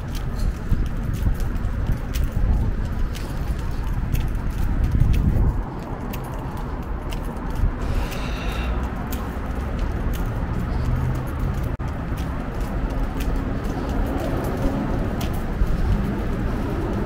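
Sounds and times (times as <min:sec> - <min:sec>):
footsteps on pavement: 0:00.0 - 0:17.0
low rumble of traffic: 0:00.0 - 0:17.0.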